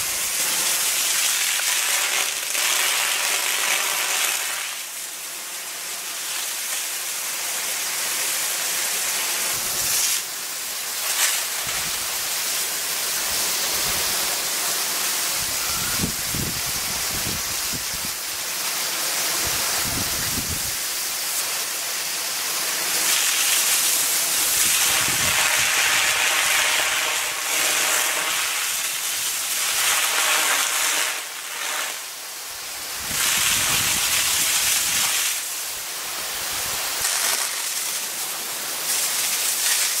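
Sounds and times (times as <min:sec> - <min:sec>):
sprinkler spraying water: 0:00.0 - 0:40.0.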